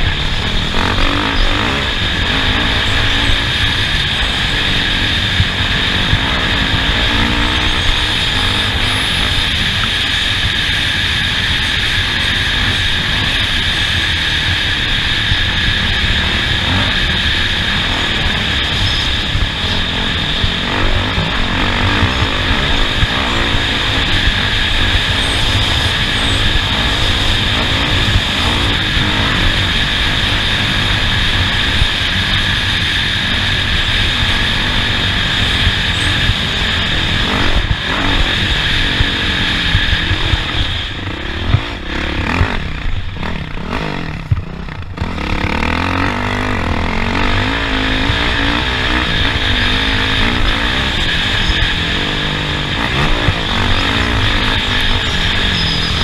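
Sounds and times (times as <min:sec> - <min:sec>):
off-road vehicle engine: 0:00.0 - 0:56.0
steady high whine: 0:00.0 - 0:56.0.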